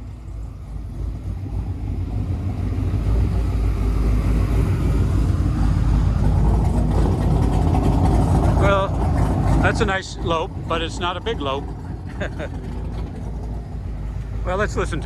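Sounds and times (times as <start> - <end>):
car engine idling with lope: 0.0 - 15.0.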